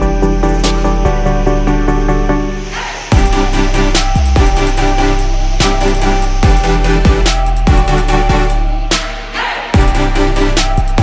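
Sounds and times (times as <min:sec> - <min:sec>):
electronic music with bass drum: 0:00.0 - 0:11.0.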